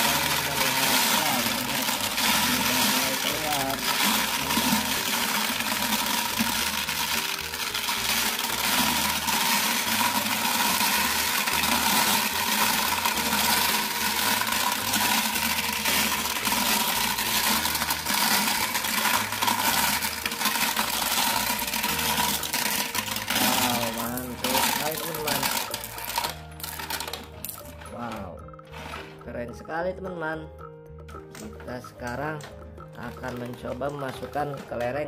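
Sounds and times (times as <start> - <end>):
glass marbles clattering on plastic: 0.0 - 30.4, 31.1 - 35.0.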